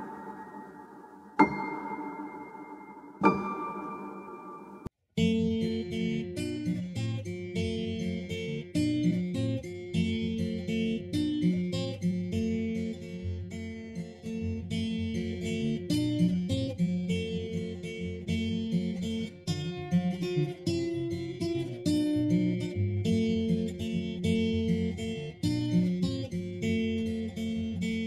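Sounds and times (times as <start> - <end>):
acoustic guitar music: 0.0 - 28.0.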